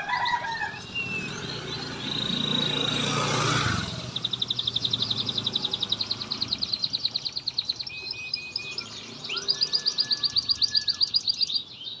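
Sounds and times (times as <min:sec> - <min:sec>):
canary singing trills: 0:00.0 - 0:12.0.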